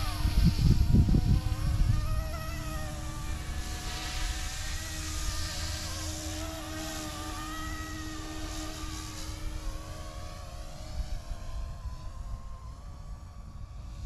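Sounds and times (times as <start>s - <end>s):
rc helicopter rotors whining: 0.0s - 14.0s
wind rumbling on microphone: 0.0s - 14.0s.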